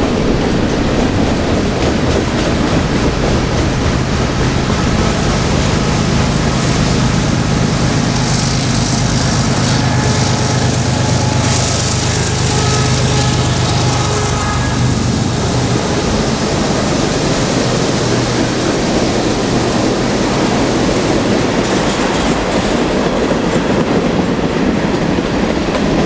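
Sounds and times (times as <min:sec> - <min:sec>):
freight train rumbling on rails: 0:00.0 - 0:26.0.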